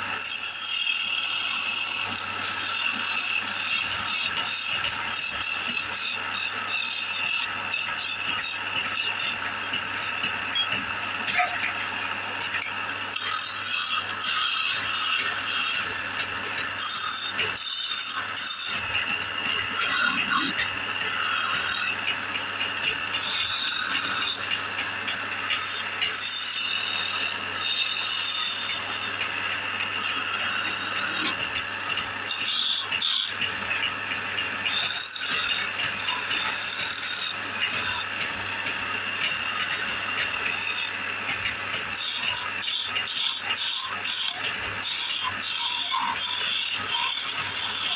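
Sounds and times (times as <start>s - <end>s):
chisel scraping spinning wood: 0.0s - 47.9s
lathe humming: 0.0s - 47.9s.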